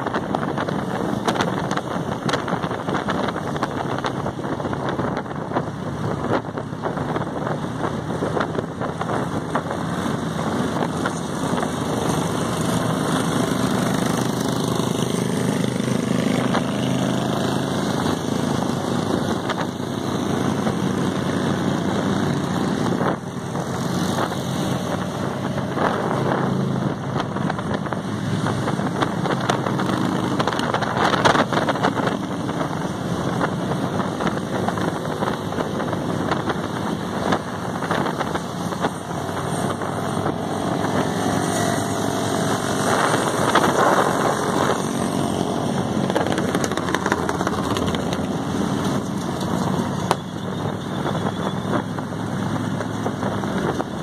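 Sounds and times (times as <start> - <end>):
motorcycle engines running: 0.0 - 54.0
road and wind noise: 0.0 - 54.0.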